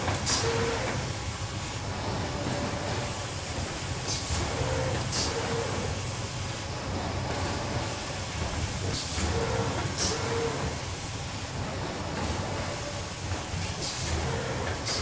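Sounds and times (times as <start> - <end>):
machine running steadily: 0.0 - 15.0.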